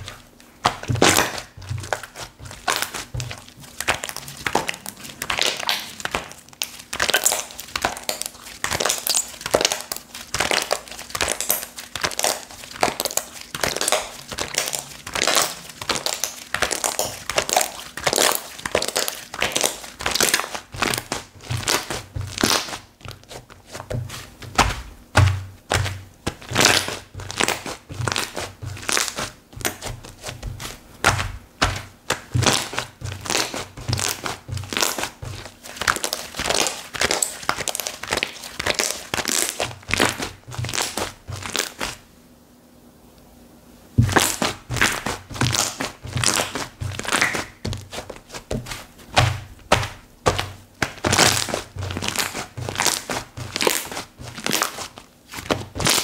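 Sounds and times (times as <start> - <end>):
slime squished by hand: 0.0 - 42.0, 44.0 - 56.0.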